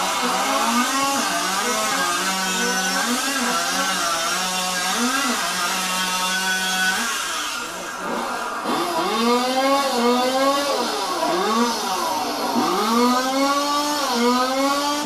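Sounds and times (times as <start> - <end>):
chainsaw cutting through log: 0.0 - 15.0.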